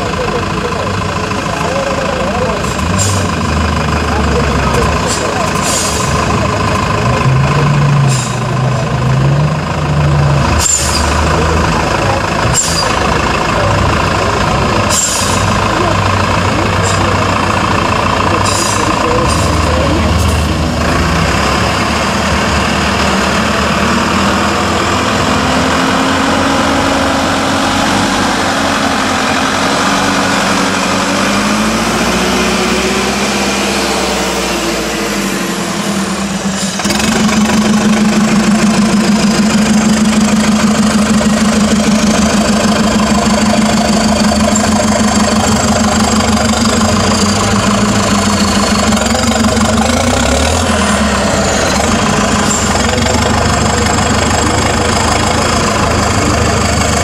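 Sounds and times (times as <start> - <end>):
truck diesel engine working hard: 0.0 - 57.0.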